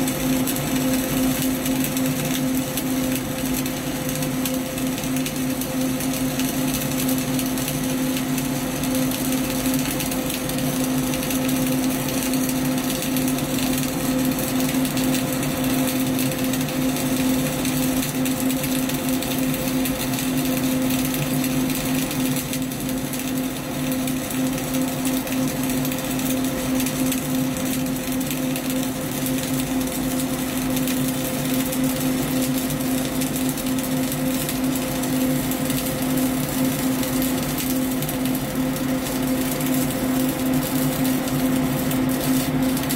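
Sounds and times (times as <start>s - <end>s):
welding arc crackling: 0.0s - 42.9s.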